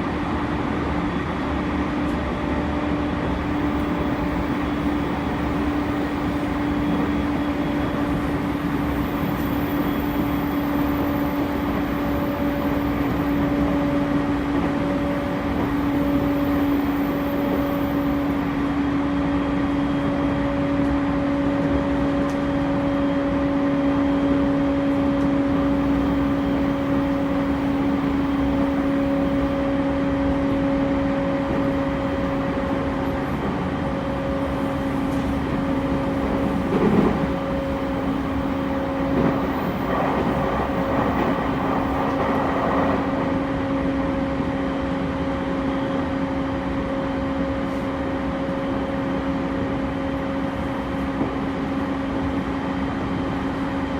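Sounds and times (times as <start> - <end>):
train drive whine: 0.0 - 53.9
train wheels rumbling on rail: 0.0 - 53.9.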